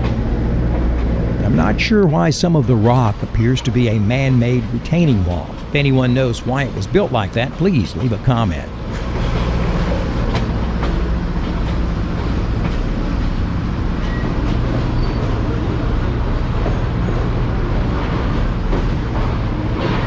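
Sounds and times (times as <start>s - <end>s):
low even drone: 0.0s - 20.0s
train wheels rumbling on rail: 0.0s - 20.0s.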